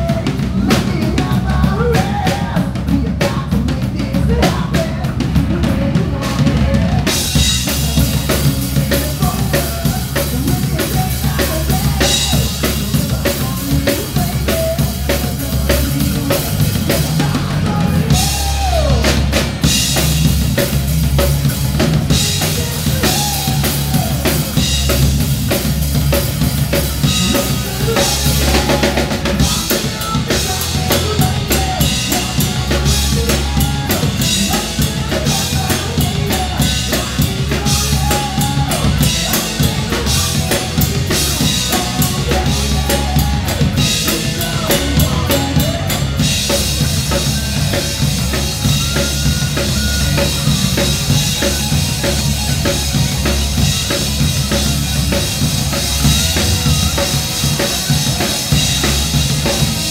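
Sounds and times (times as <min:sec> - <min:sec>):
bass guitar: 0:00.0 - 0:59.9
drum kit: 0:00.0 - 0:59.9
electric guitars: 0:00.0 - 0:59.9.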